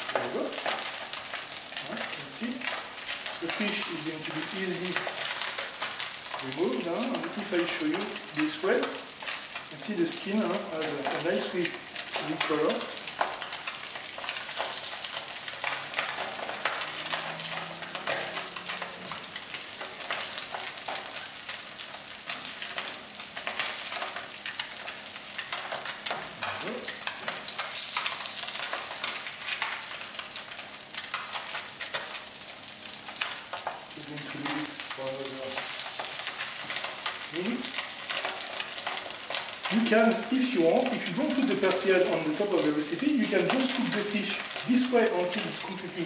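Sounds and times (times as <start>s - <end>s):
fish sizzling in a frying pan: 0.0s - 46.0s.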